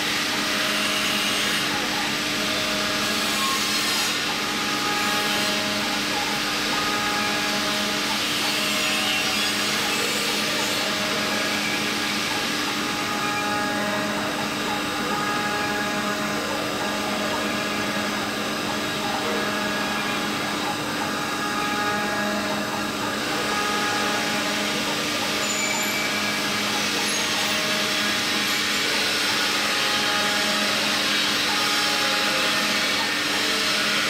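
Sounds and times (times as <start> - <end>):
milling machine spindle whine: 0.0 - 34.0.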